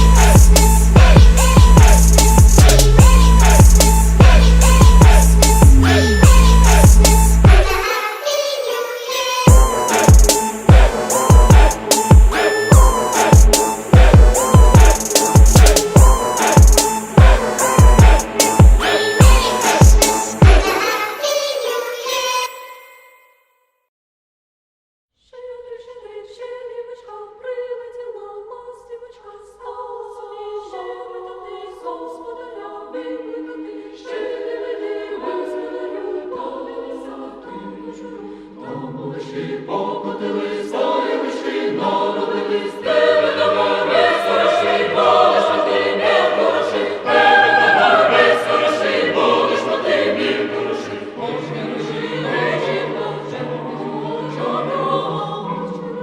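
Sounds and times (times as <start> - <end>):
choir singing in harmony: 0.0 - 22.1, 25.3 - 56.0.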